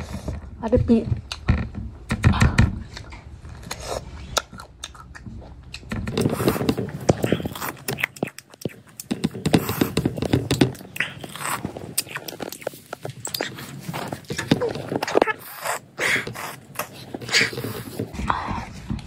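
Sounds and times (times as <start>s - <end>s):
close chewing: 2.9s - 19.0s.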